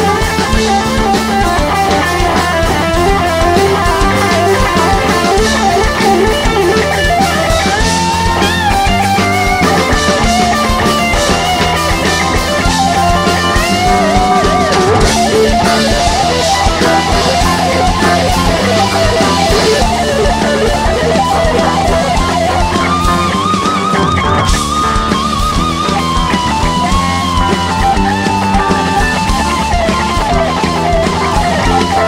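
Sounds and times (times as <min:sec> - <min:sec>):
bass guitar: 0:00.0 - 0:32.0
drums: 0:00.0 - 0:32.0
electric guitar bending notes: 0:00.0 - 0:32.0.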